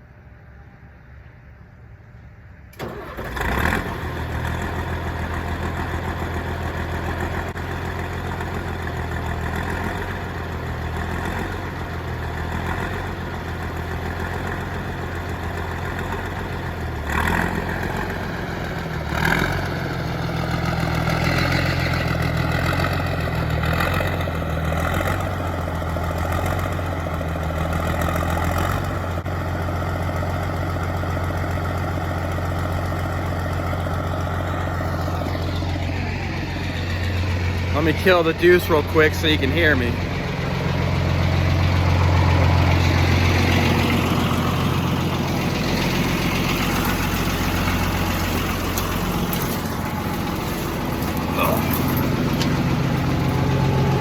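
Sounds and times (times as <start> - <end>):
truck engine starting and idling: 1.7 - 54.0
truck engine revving: 2.8 - 54.0.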